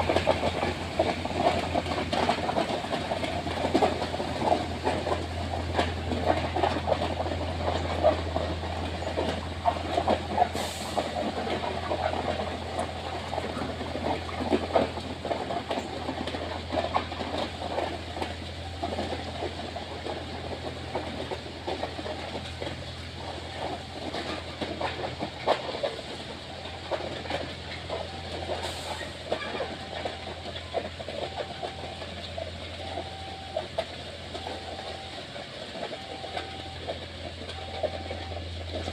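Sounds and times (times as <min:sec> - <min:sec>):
train engine hum: 0:00.0 - 0:38.9
train wheel clatter: 0:00.0 - 0:38.9.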